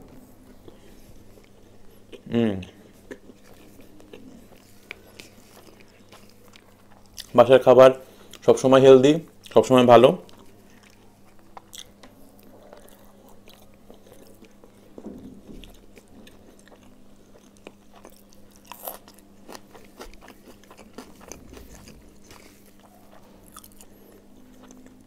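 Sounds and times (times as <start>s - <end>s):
faint steady hum: 0.0s - 25.0s
person chewing food: 0.4s - 7.4s, 10.2s - 25.0s.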